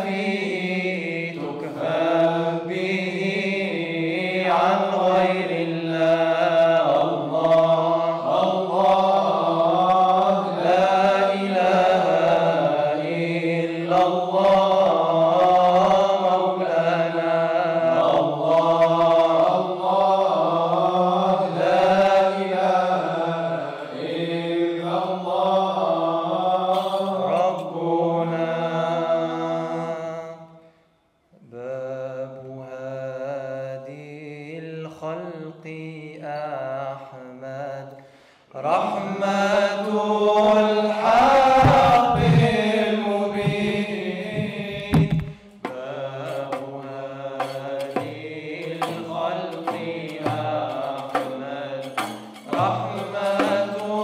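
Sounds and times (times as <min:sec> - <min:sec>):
men chanting devotional song: 0:00.0 - 0:30.7, 0:31.4 - 0:54.0.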